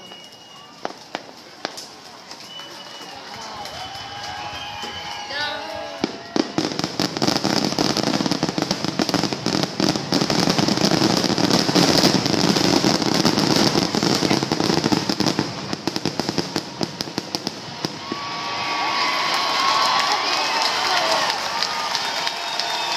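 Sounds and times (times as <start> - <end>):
fireworks bangs and crackles: 0.0 - 22.9.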